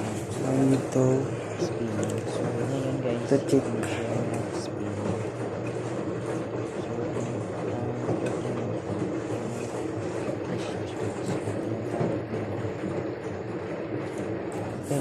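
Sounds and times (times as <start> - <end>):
washing machine drum spinning: 0.0 - 15.0.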